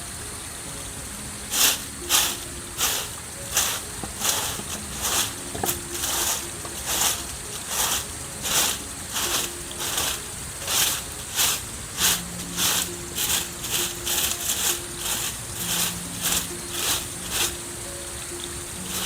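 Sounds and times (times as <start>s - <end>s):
rhythmic scraping strokes: 0.8s - 19.0s.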